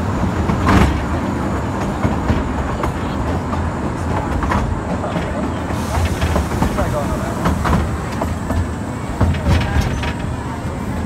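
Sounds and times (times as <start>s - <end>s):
train cars rumbling: 0.0s - 11.0s
wheels clicking on rails: 0.0s - 11.0s.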